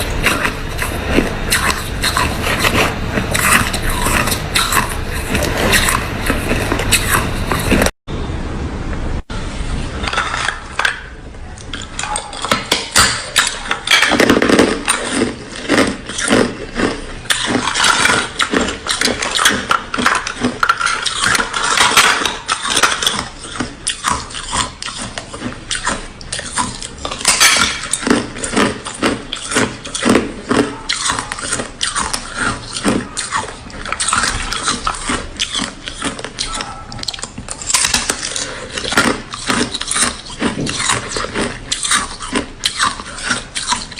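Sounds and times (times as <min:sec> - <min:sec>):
ice crunching between teeth: 0:00.0 - 0:07.9, 0:11.6 - 0:43.9.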